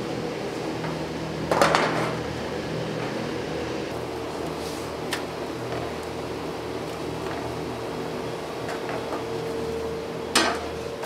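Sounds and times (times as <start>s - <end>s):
kitchen machine hum: 0.0s - 11.0s.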